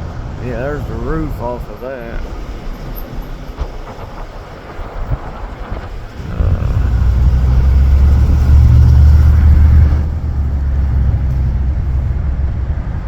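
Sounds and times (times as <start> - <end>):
car road noise rumble: 0.0 - 13.0
wind buffeting microphone: 0.0 - 13.0.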